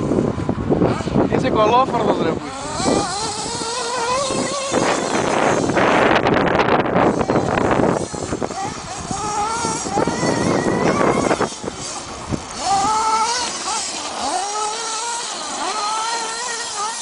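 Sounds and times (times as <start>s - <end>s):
small engine revving: 0.0s - 17.0s.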